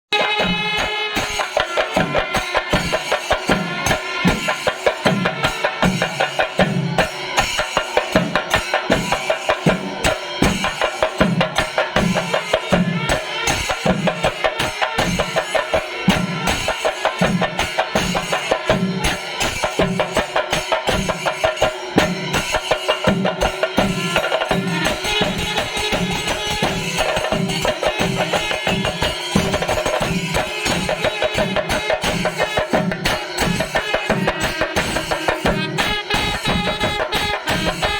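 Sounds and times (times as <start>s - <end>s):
fast drum strokes: 0.1s - 37.9s
ringing metal cymbals: 0.2s - 37.9s.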